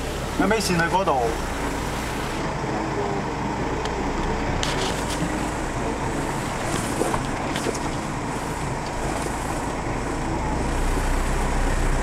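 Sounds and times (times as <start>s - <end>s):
car engine running inside cab: 0.0s - 12.0s.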